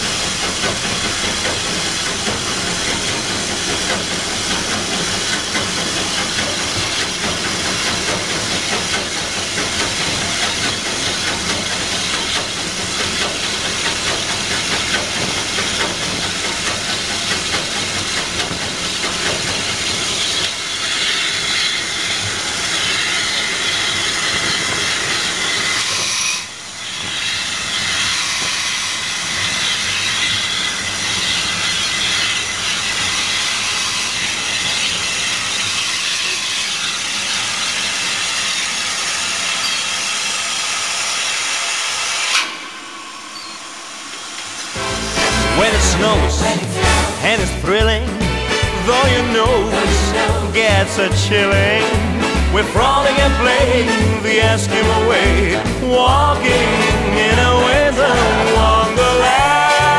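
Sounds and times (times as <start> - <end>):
loud hiss of steam: 0.0 - 54.0
steam locomotive running: 0.0 - 59.9.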